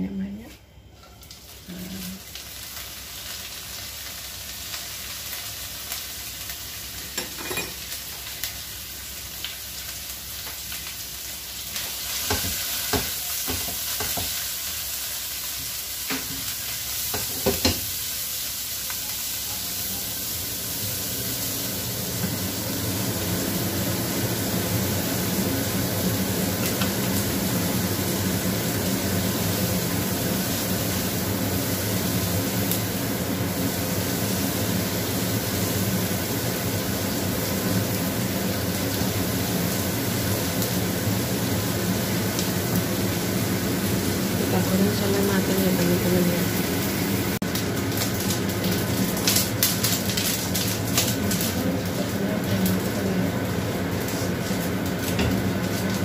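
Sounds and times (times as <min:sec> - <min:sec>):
fish sizzling in oil: 0:01.2 - 0:56.0.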